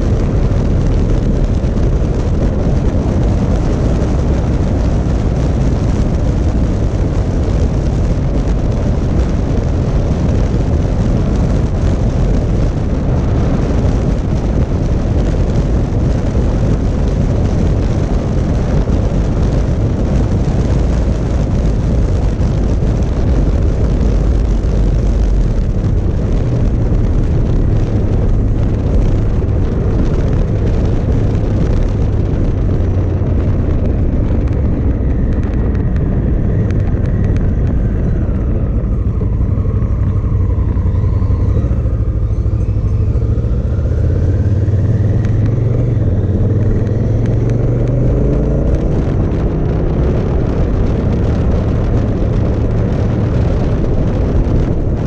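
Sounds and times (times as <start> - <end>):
faint whine: 0.0 - 49.5
motorcycle engine running: 0.0 - 55.0
wind rushing over camera: 0.0 - 55.0.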